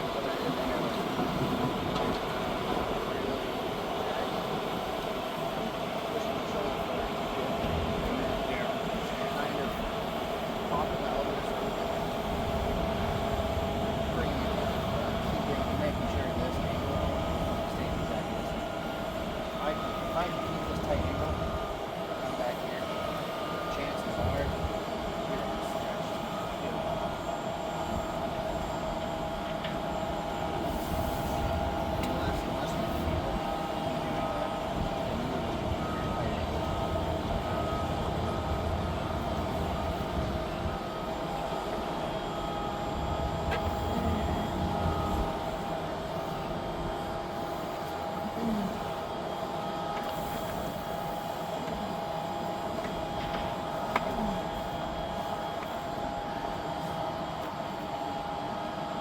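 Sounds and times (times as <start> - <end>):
steady droning hum: 0.0 - 58.8.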